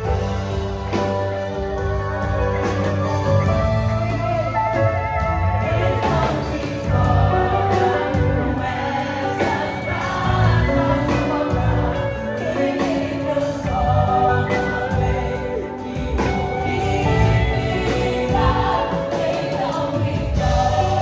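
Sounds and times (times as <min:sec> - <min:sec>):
band playing: 0:00.0 - 0:21.0
steady drum beat: 0:00.0 - 0:21.0
voices singing together: 0:00.0 - 0:21.0.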